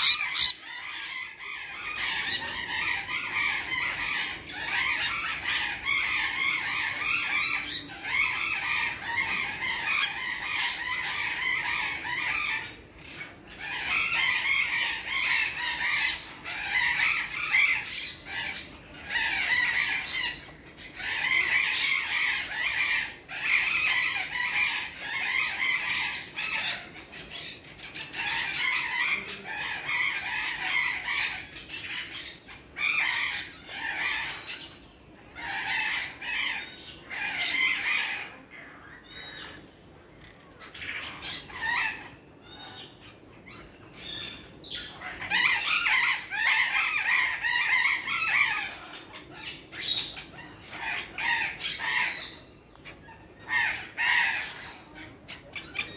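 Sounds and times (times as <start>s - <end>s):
parrots screeching and squawking: 0.0s - 55.9s.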